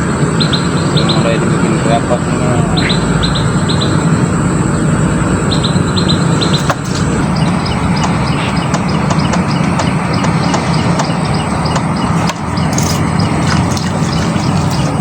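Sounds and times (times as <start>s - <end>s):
bird chirping: 0.2s - 15.0s.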